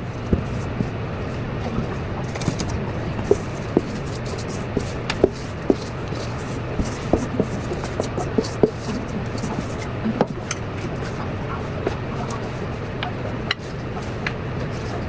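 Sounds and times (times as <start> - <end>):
spoon scraping mixing bowl: 0.0 - 15.0
steady low hum: 0.0 - 15.0.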